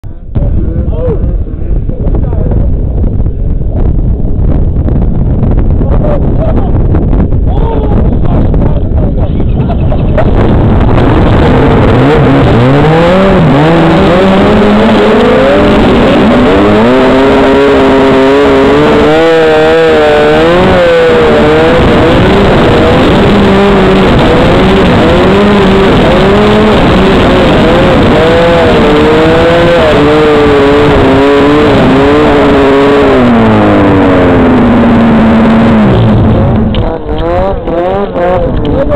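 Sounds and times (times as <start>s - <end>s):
snowmobile engine revving: 7.5s - 38.9s.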